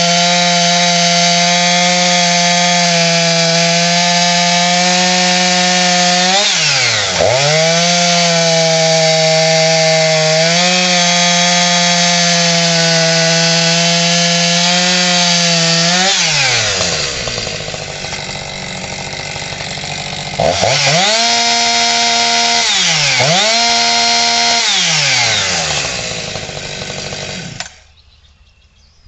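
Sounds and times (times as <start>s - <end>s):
chainsaw engine revving: 0.0s - 27.9s.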